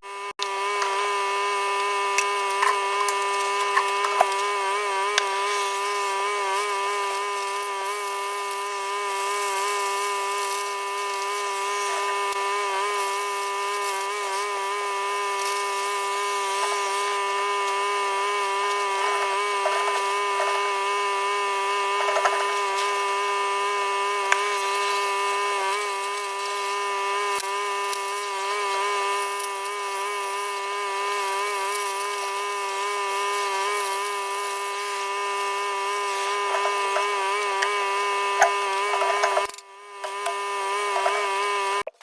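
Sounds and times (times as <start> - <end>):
power tool motor running: 0.0 - 42.0.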